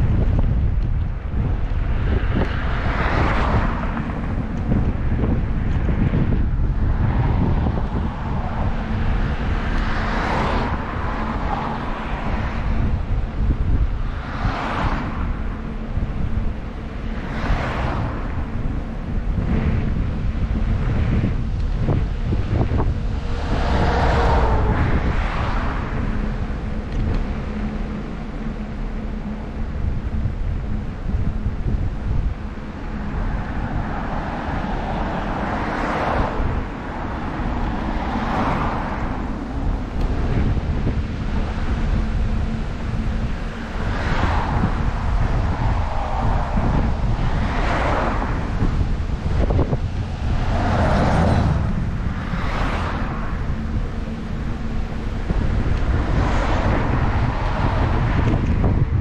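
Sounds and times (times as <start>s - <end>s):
vehicles passing: 0.0s - 59.0s
wind rumble on microphone: 0.0s - 59.0s.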